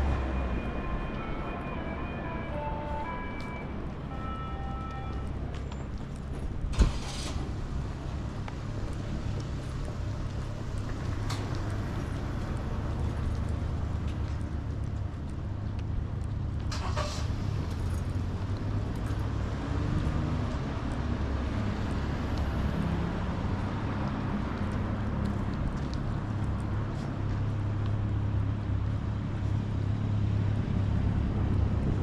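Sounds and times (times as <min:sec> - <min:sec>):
low rumble of road traffic: 0:00.0 - 0:32.0.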